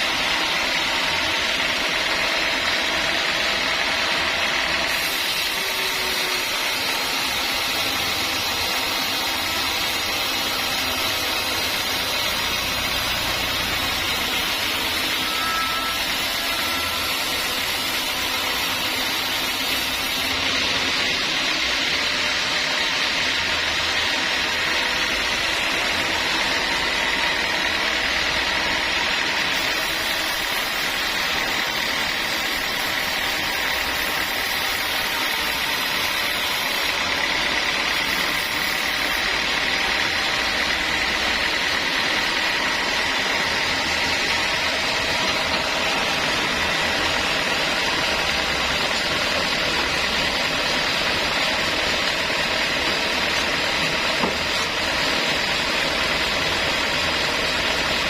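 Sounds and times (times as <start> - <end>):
sawmill saw whining: 0.0 - 58.0.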